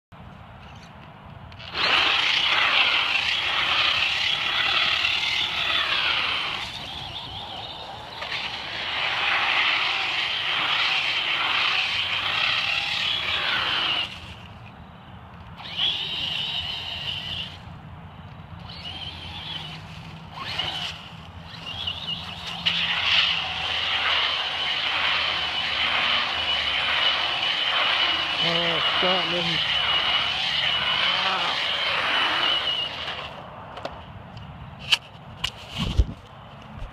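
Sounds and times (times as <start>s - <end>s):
rc truck motor whining: 1.5s - 33.9s.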